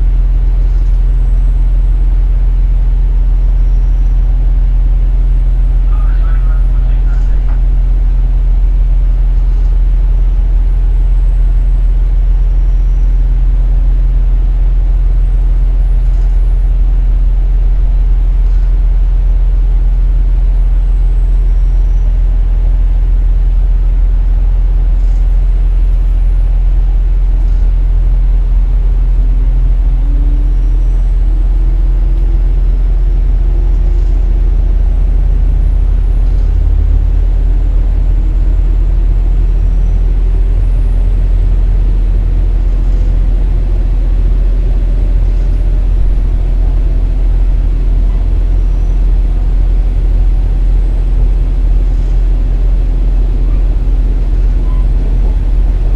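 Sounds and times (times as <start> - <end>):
diesel engine drone: 0.0 - 55.9
rail running noise: 0.0 - 55.9.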